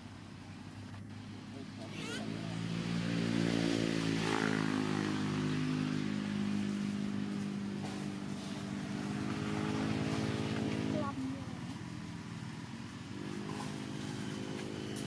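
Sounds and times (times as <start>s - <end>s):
motorbike engine running: 0.7s - 15.0s.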